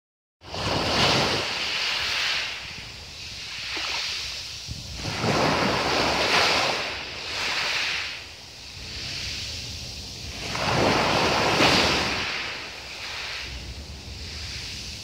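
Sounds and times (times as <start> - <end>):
waves washing over pebbles: 0.4 - 15.0.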